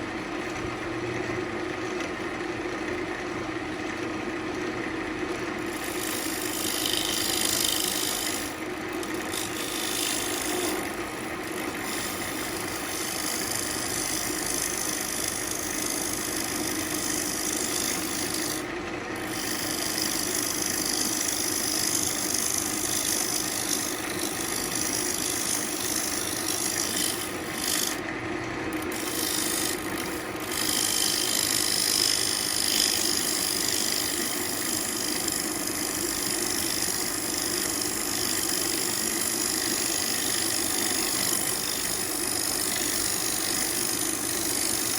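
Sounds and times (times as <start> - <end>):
lathe tool scraping wood: 3.9 - 44.9.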